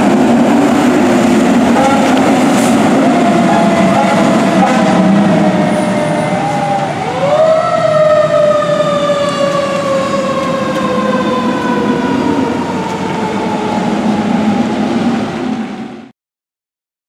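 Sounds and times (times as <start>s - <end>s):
fire engine siren: 1.6s - 16.1s.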